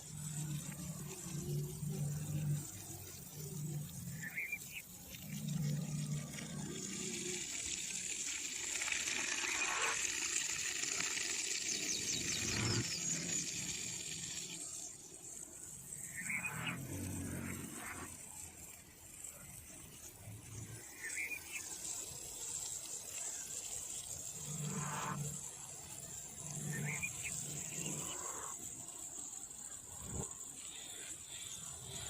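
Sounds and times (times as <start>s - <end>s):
running water: 0.0s - 32.0s.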